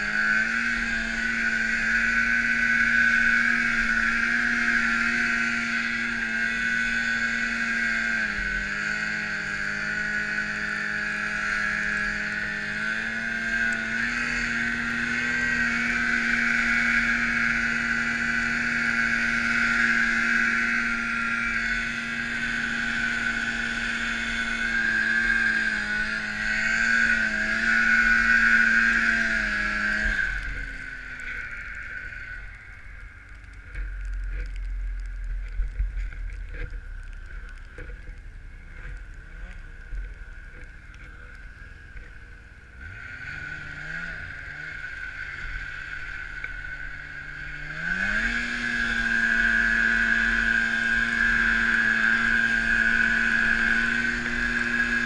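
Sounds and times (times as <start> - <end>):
snowmobile engine revving: 0.0 - 34.5, 37.3 - 55.0.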